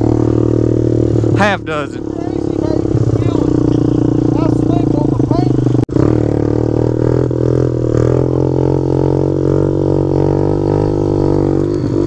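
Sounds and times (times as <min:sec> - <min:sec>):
motorbike engine droning: 0:00.0 - 0:12.0.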